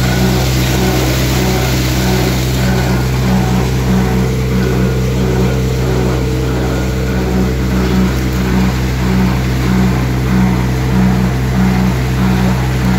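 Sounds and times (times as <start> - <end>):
thresher humming: 0.0 - 12.9
tractor diesel engine running: 0.0 - 12.9.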